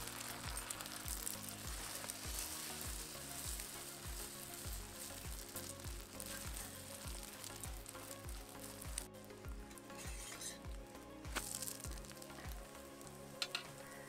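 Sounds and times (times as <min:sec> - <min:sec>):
egg frying in oil sizzling: 0:00.0 - 0:14.0.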